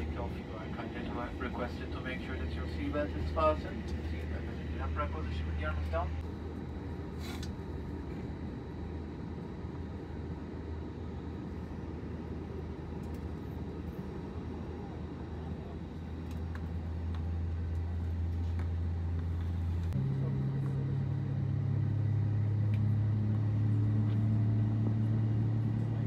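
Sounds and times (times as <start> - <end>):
jet engine cabin hum: 0.0 - 26.0.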